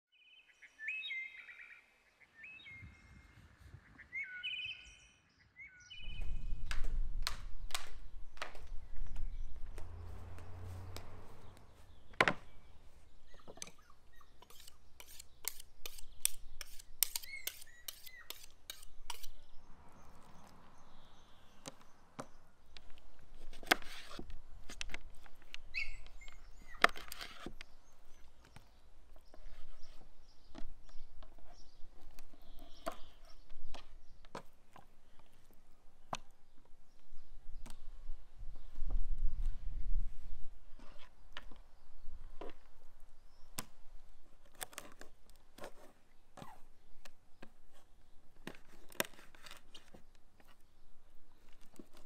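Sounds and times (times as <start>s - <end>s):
faint birds chirping: 0.1s - 52.0s.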